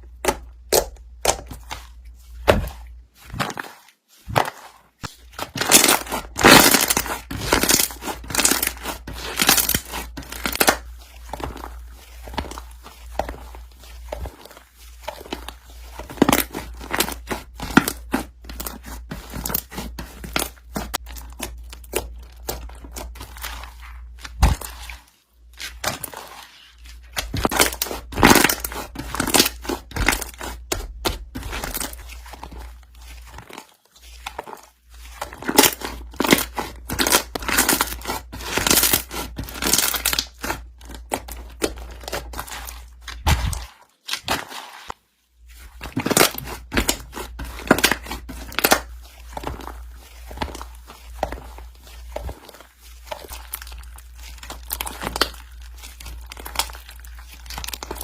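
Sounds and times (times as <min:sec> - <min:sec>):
slime crackling and popping: 0:04.3 - 0:24.9, 0:27.0 - 0:34.5, 0:35.2 - 0:44.4, 0:45.8 - 0:58.0.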